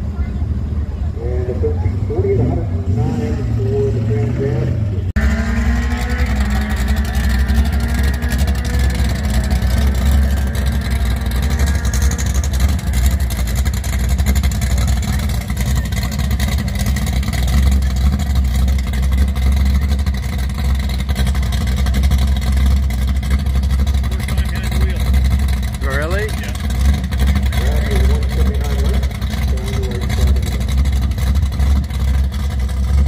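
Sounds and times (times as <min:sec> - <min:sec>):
race car engine idling: 0:00.0 - 0:33.0.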